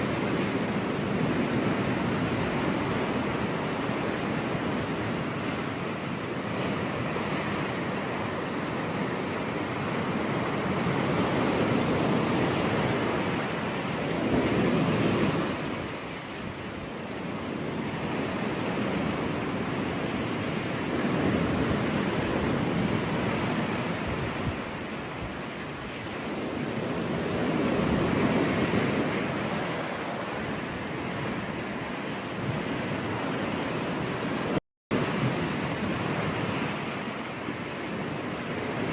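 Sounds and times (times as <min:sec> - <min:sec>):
ocean waves washing onto beach: 0:00.0 - 0:38.9.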